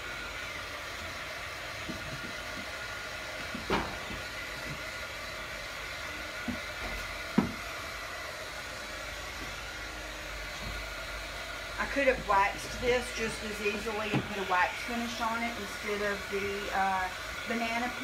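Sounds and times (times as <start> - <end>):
hot-air dryer blowing with whine: 0.0 - 18.0.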